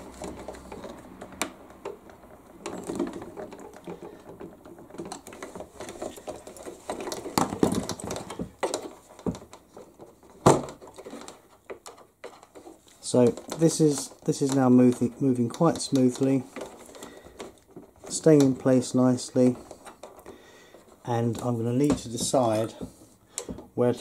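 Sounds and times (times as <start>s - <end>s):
plastic clicks and knocks: 0.0s - 24.0s.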